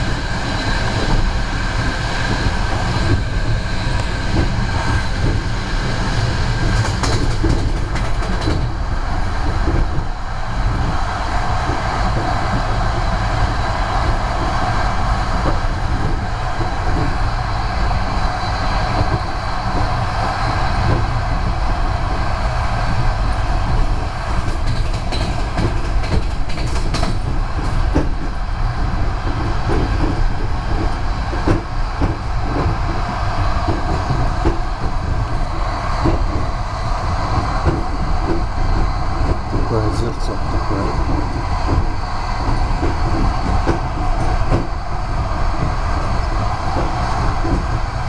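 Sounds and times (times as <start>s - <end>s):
train wheels rolling on rails: 0.0s - 48.0s.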